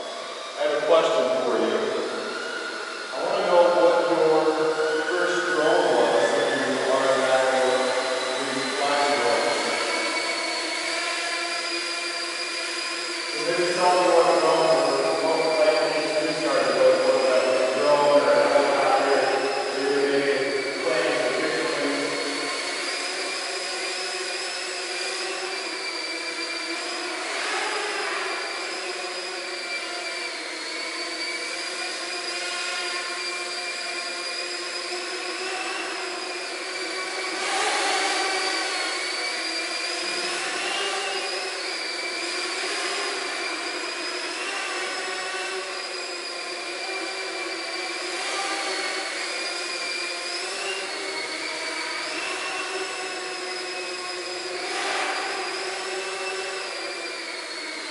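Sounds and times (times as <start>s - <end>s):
drone propellers whining: 0.0s - 57.9s.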